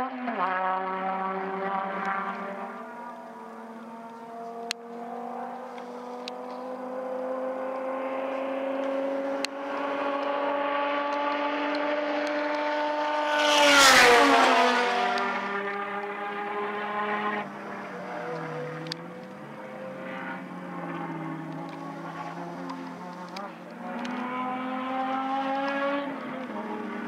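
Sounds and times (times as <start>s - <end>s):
car passing close by: 0.0s - 27.0s
race cars at full throttle: 0.0s - 27.0s.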